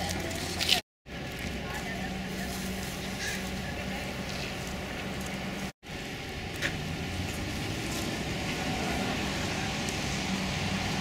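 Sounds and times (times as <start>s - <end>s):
rumbling vehicle hum: 0.0s - 11.0s.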